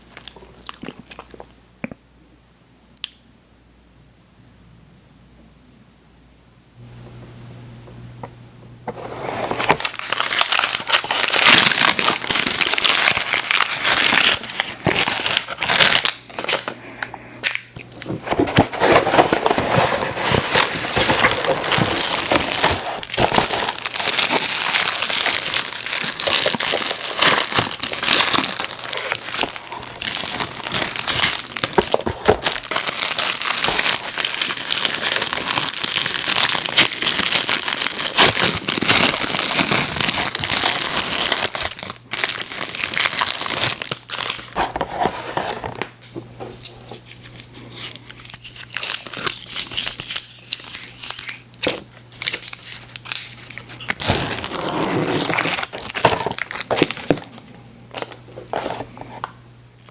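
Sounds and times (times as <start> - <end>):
plastic candy wrappers crinkling: 9.4 - 45.8, 46.5 - 59.4.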